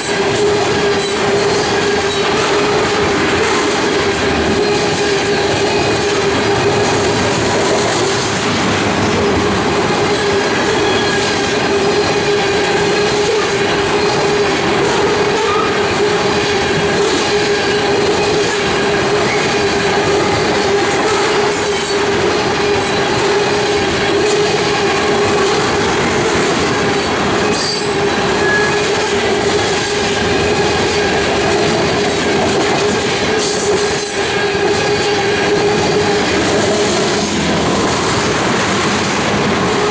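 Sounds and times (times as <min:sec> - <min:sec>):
train wheels squealing: 0:00.0 - 0:02.9, 0:03.6 - 0:07.3, 0:10.0 - 0:36.4
train wheels clattering: 0:00.0 - 0:39.9.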